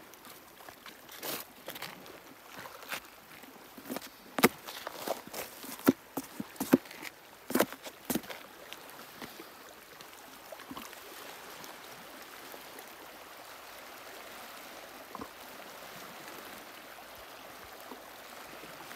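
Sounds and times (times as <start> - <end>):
small waves lapping at shore: 0.0 - 18.9.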